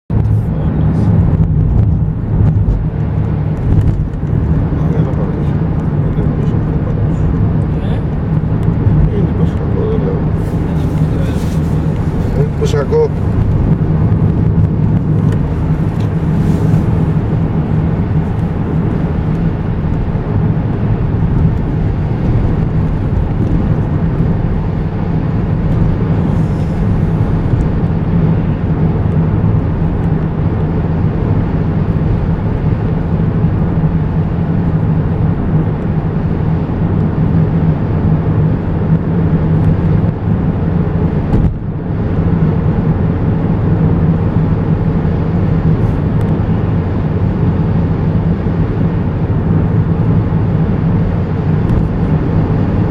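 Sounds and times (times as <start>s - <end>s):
road and tyre noise: 0.0s - 52.9s
car engine drone: 0.1s - 52.9s.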